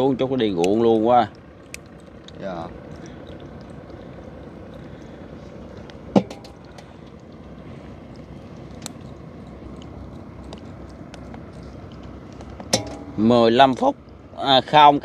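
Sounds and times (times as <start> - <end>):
boat low rumble: 0.0 - 15.0.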